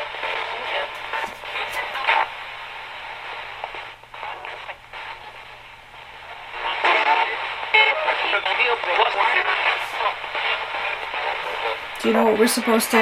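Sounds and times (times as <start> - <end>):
broken broadcast snippets: 0.0 - 13.0
radio static bursts: 0.0 - 13.0.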